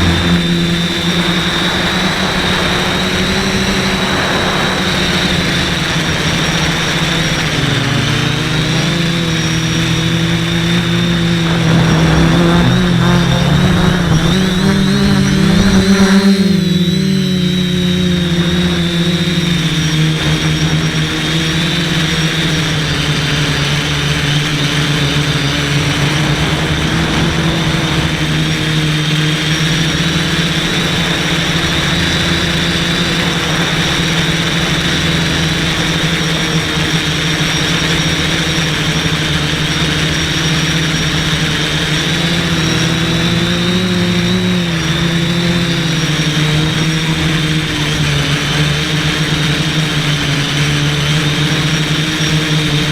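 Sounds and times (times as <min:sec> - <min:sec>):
quadcopter motors humming: 0:00.0 - 0:52.9.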